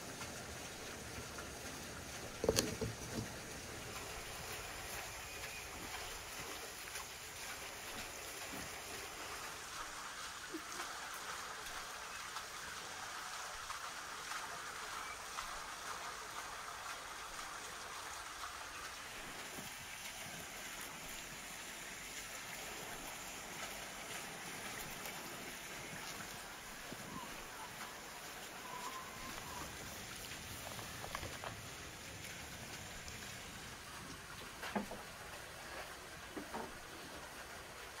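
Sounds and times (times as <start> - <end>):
flowing water rushing: 0.0 - 38.0.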